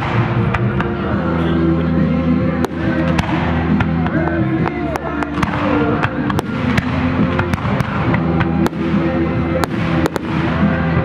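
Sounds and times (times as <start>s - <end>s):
fireworks bangs and crackles: 0.0s - 1.4s, 2.5s - 11.0s
music with held notes: 0.0s - 11.0s.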